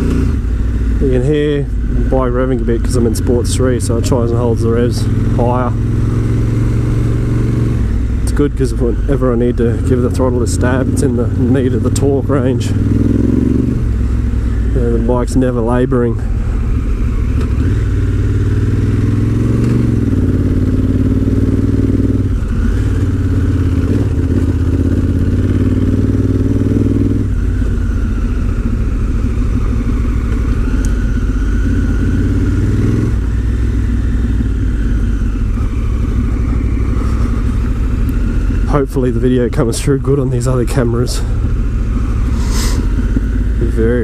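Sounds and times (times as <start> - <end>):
motorcycle engine at high revs: 0.0 - 44.0.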